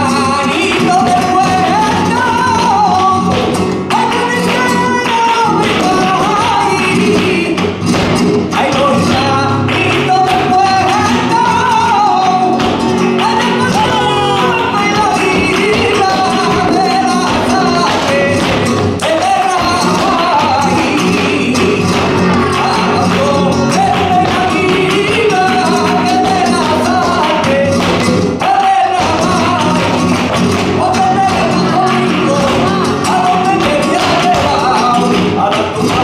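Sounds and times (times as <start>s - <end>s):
flamenco guitar: 0.0s - 36.0s
man singing flamenco: 0.0s - 36.0s
rhythmic handclaps: 0.0s - 36.0s
dancer's footwork strikes: 4.5s - 36.0s.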